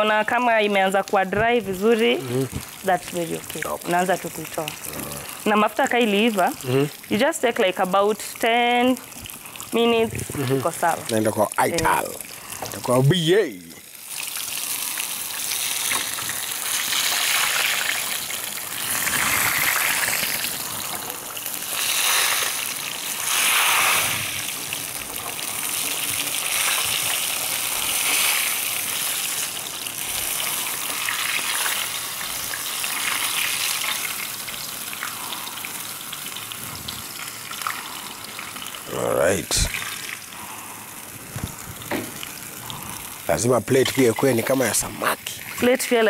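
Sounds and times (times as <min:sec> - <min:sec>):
fish sizzling in hot oil: 0:00.0 - 0:46.0.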